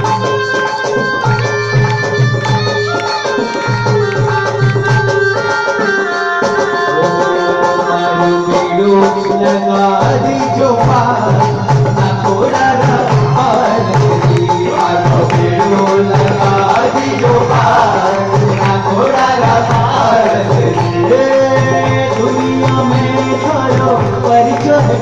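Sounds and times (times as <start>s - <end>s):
steady drum rhythm: 0.0s - 25.0s
man singing into a microphone: 2.9s - 25.0s.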